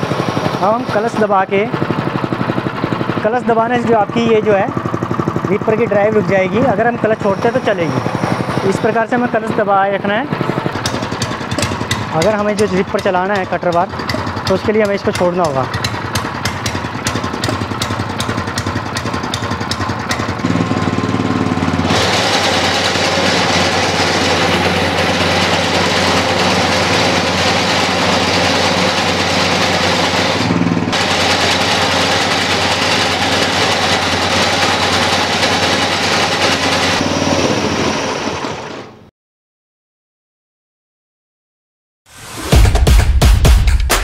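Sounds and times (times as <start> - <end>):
cutter bar mechanical noise: 0.0 - 39.0
small petrol engine running: 0.0 - 39.1.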